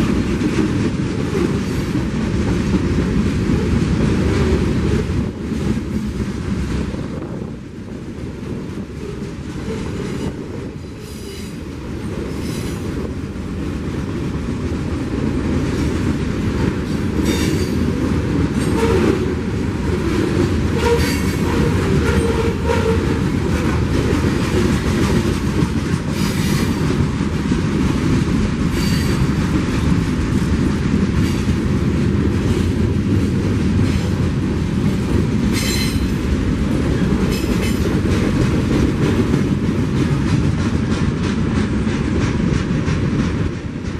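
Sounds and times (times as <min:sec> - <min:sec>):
train rumbling past: 0:00.0 - 0:43.9
wheels clicking over rail joints: 0:08.2 - 0:43.9.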